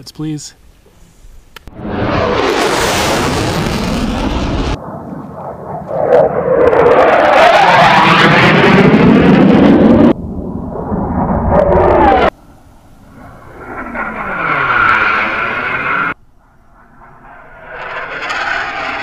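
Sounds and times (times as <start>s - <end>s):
fighter jet roaring overhead: 1.7s - 19.0s.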